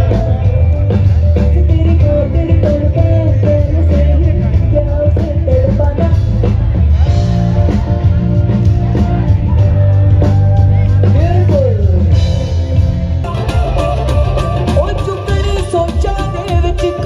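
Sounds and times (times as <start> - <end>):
deep bass: 0.0 - 17.0
drum kit: 0.0 - 17.0
guitar: 0.0 - 17.0.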